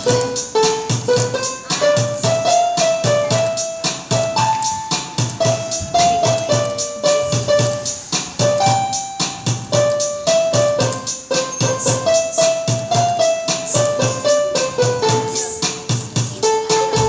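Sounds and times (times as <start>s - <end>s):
electronic keyboard melody: 0.0s - 17.0s
steady beat: 0.0s - 17.0s.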